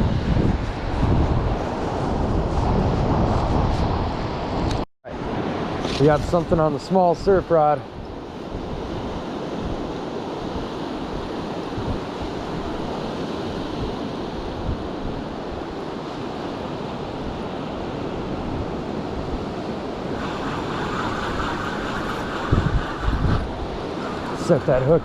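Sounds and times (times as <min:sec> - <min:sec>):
surf breaking on a beach: 0:00.0 - 0:25.0
wind buffeting the microphone: 0:00.0 - 0:25.0.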